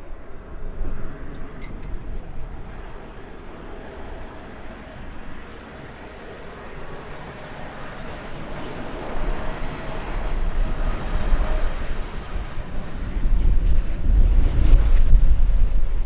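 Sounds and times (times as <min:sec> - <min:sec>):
airplane engines running: 0:00.0 - 0:16.0
wind buffeting microphone: 0:00.0 - 0:16.0.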